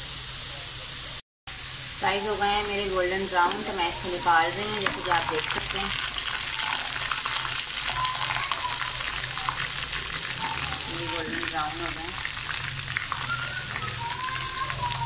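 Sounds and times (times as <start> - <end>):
fries sizzling in hot oil: 0.0 - 15.0.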